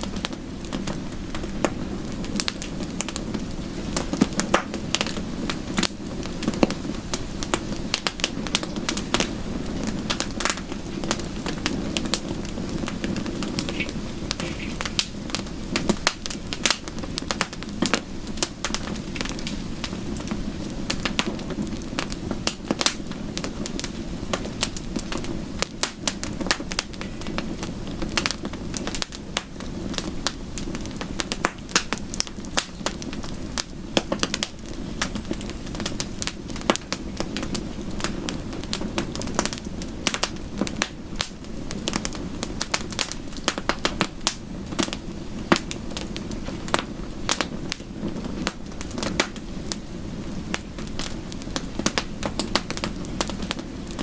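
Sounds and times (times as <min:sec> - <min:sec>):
soft rain: 0:00.0 - 0:54.0
wood fire crackling: 0:00.0 - 0:54.0.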